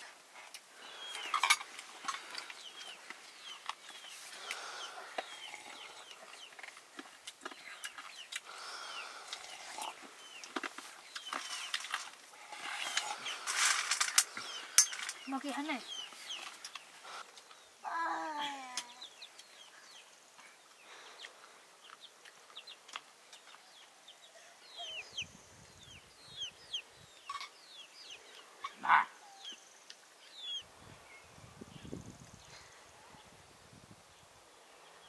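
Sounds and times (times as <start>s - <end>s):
birds chirping: 0.7s - 33.3s.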